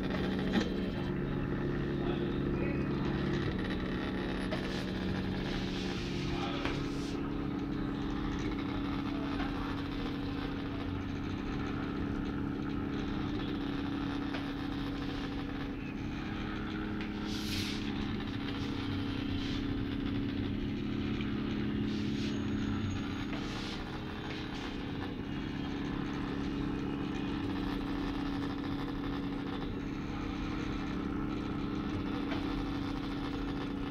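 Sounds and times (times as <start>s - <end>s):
printer mechanical hum with tone: 0.0s - 33.9s.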